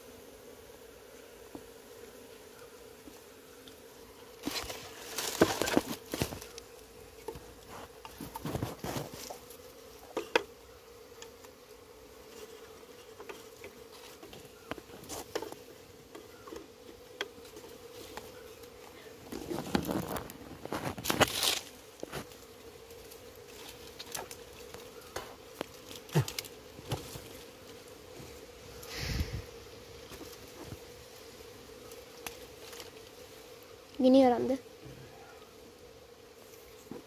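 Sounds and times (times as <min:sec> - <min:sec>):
honeybees buzzing: 0:00.0 - 0:37.0
handling wooden hive frames: 0:01.4 - 0:34.3.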